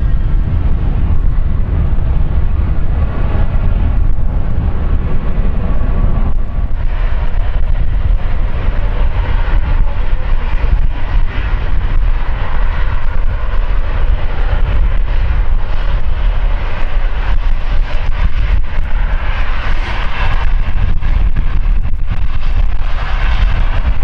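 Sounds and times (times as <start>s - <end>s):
aircraft engines running: 0.0s - 24.0s.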